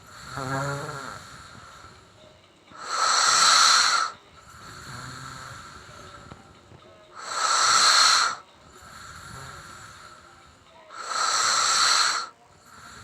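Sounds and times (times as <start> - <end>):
low rasping snore: 0.0 - 6.6, 7.2 - 13.0
loud hissing breath: 0.0 - 13.0.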